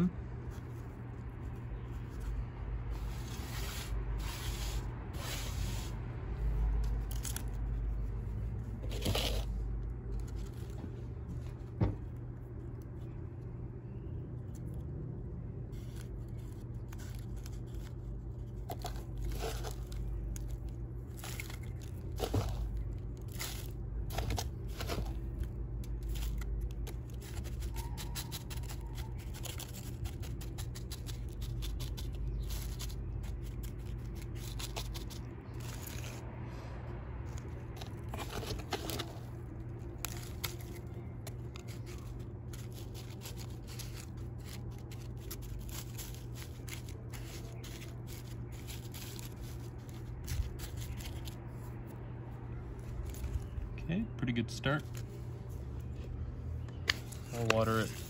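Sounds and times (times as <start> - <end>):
potting soil crunching and scraping: 0.0 - 13.2, 15.5 - 58.0.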